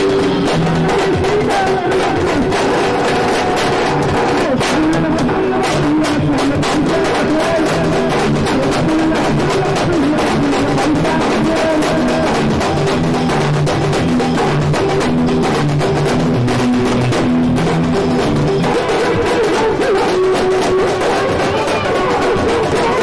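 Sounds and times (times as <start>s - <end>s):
drum band beating fast rhythm: 0.0s - 23.0s.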